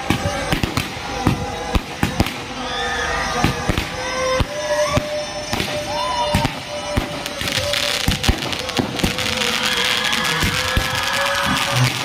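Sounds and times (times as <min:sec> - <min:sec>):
fireworks banging: 0:00.0 - 0:12.0
music with long held note: 0:00.0 - 0:12.0.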